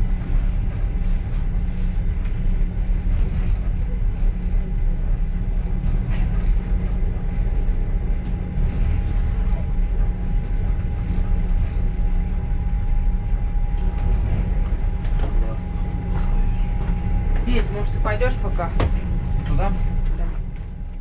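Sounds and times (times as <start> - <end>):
train carriage rumbling: 0.0 - 21.0.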